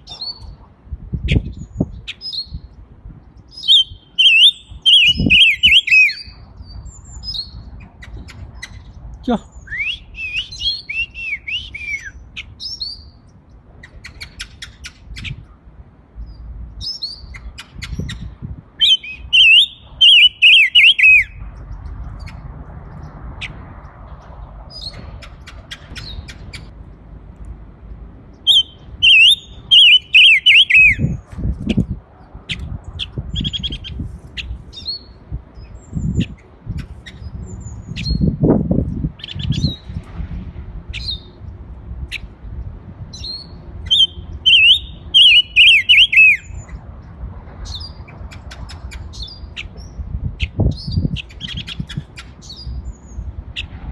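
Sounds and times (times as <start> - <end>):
songbird singing: 0.0 - 40.1, 40.9 - 53.9.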